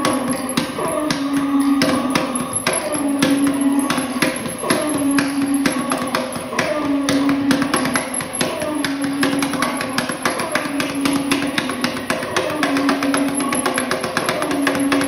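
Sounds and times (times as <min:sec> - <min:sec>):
hand drumming on ceramic drum: 0:00.0 - 0:15.0.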